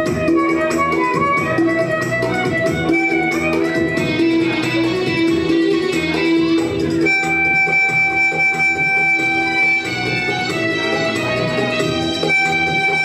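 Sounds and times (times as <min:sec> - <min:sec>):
violin melody: 0:00.0 - 0:13.0.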